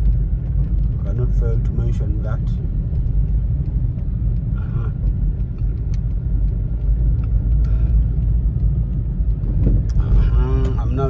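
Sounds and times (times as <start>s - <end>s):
car cabin rumble: 0.0s - 11.0s
raindrops ticking on windscreen: 0.0s - 11.0s.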